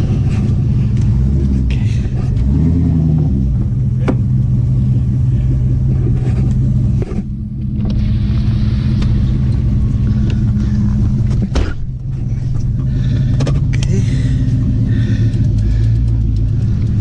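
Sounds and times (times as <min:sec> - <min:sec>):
deep engine exhaust drone: 0:00.0 - 0:17.0.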